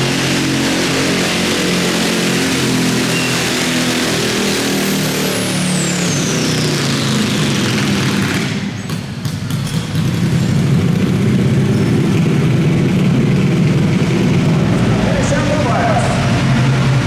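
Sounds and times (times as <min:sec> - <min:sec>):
garden tractor engine running: 0:00.0 - 0:15.4.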